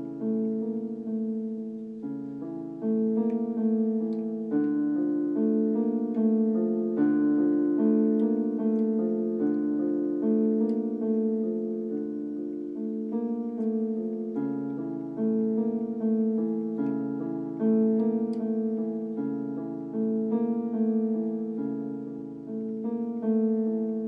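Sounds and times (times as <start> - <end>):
electric piano chords and melody: 0.0 - 24.0.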